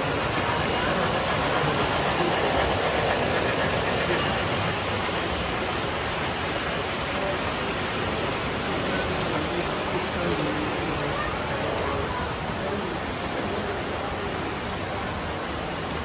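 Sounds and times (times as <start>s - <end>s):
model train rumbling on metal track: 0.0s - 16.0s.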